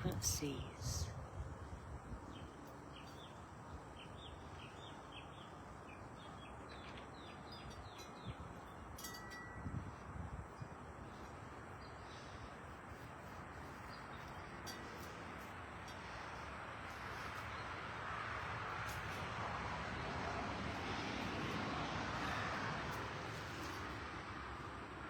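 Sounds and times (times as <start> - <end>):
outdoor background hiss: 0.0 - 25.0.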